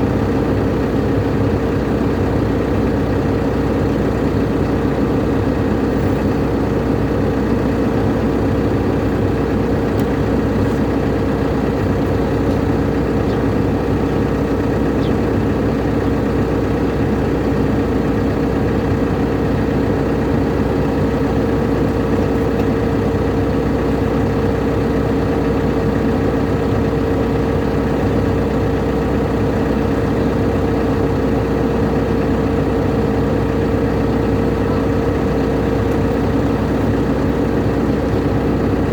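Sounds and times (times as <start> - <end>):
constant whine: 0.0 - 38.9
excavator diesel engine running: 0.0 - 38.9.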